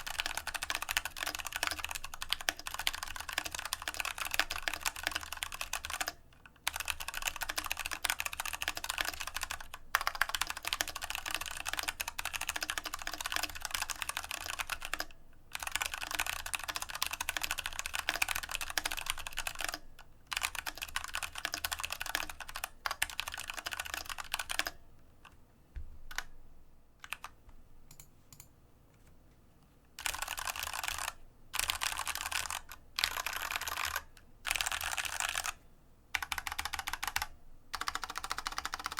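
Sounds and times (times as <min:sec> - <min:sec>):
mechanical keyboard typing: 0:00.0 - 0:24.8, 0:26.1 - 0:26.3, 0:27.0 - 0:28.5, 0:30.0 - 0:38.9.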